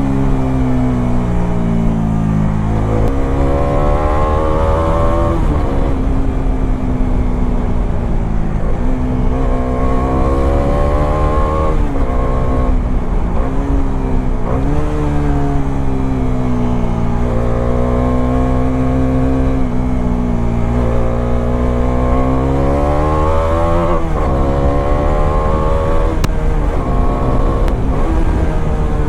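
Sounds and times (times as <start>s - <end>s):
motorcycle engine revving through gears: 0.0s - 29.0s
wind rumble on microphone: 0.0s - 29.0s.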